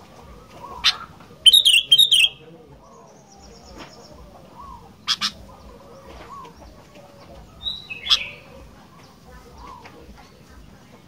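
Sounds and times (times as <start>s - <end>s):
bulbul calling: 0.0s - 10.2s
soft arched bird notes: 0.0s - 10.5s.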